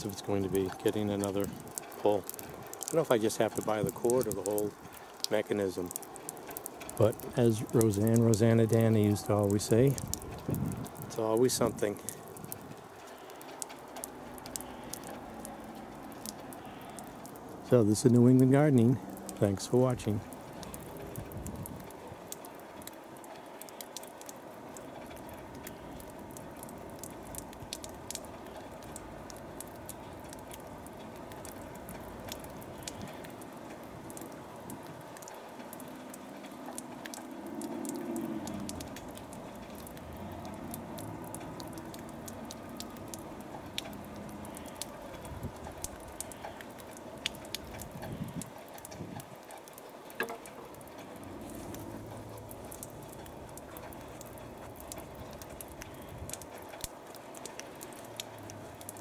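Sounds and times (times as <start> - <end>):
light ticks and patters: 0.0 - 59.0
steady low hiss: 0.0 - 59.0.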